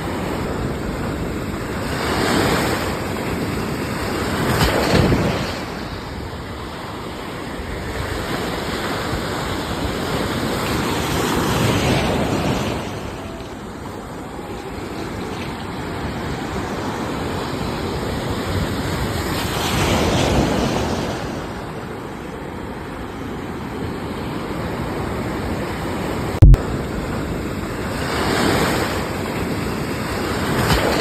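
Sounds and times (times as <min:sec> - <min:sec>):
sea waves breaking: 0:00.0 - 0:31.0.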